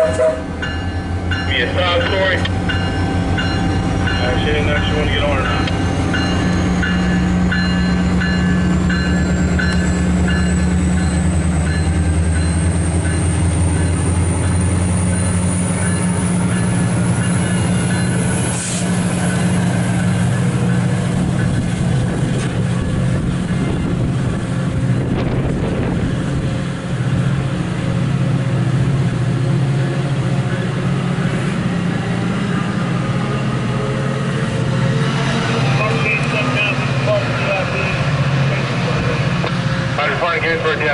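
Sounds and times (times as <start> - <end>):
diesel locomotive engine droning: 0.0 - 40.9
train coaches rumbling on rails: 0.0 - 40.9.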